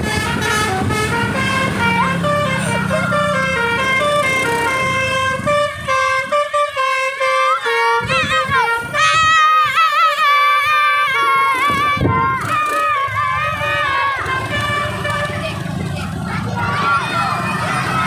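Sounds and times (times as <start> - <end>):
multi-tone bus horn melody: 0.0 - 18.0.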